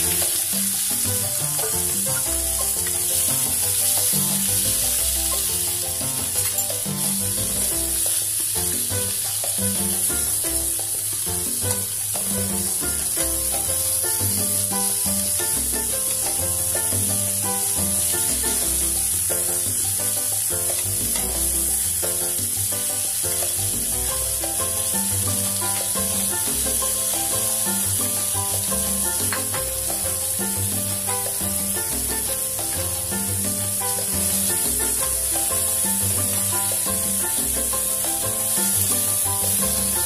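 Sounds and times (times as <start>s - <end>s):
background music: 0.0s - 40.0s
shrimp sizzling in a frying pan: 0.0s - 40.0s.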